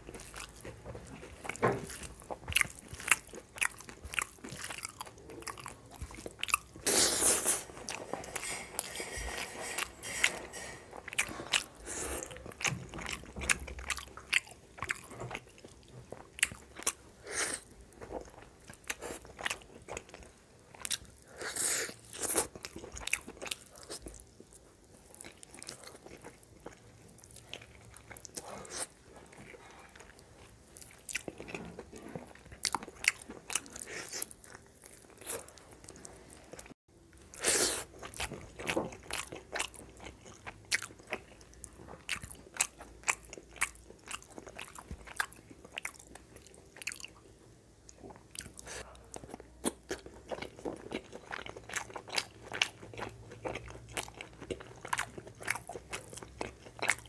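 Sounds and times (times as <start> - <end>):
crunchy chewing: 0.0 - 47.2, 47.9 - 57.0.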